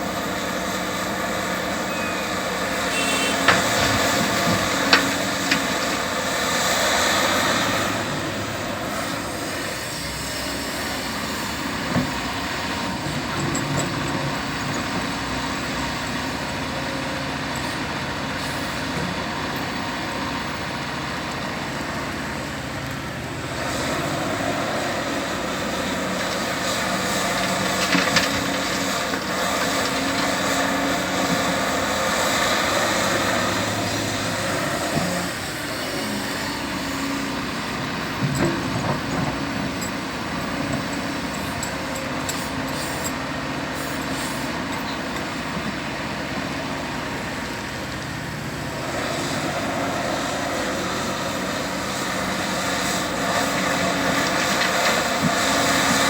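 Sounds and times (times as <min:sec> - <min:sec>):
diesel excavator engine working: 0:00.0 - 0:56.0.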